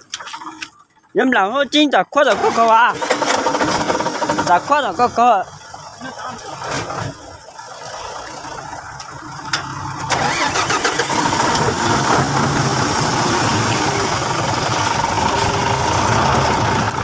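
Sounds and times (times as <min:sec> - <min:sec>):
vehicle engine starting and running: 0:02.1 - 0:17.0.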